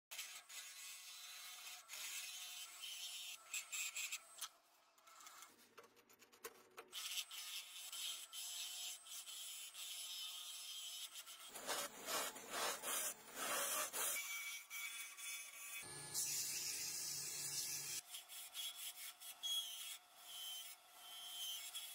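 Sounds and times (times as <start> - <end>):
lathe chisel scraping wood: 0.1 - 4.5, 7.0 - 21.9.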